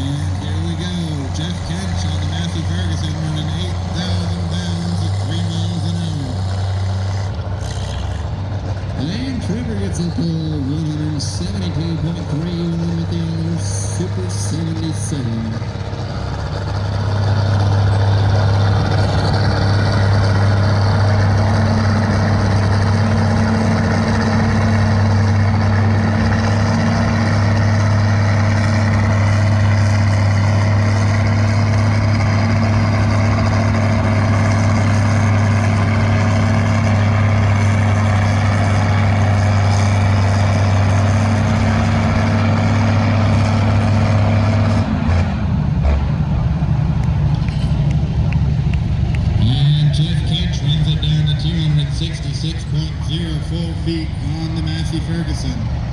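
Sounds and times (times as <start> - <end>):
tractor engine running hard: 0.0 - 55.9.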